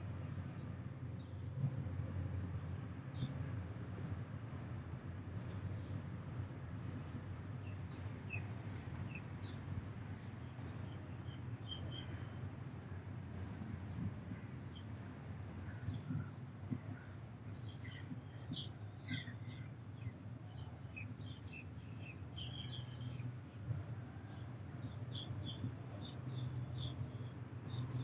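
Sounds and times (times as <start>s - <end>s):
small birds chirping: 3.1s - 28.0s.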